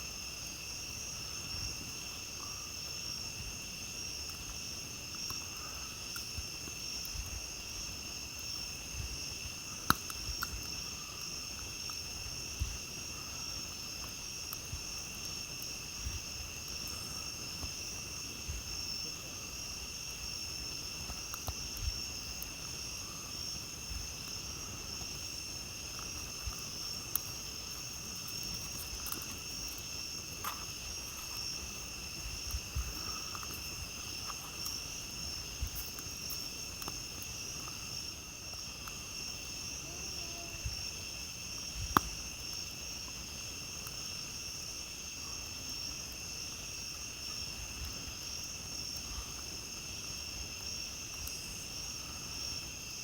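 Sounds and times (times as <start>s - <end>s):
crickets chirping: 0.0s - 53.0s
campfire crackling and popping: 0.2s - 53.0s.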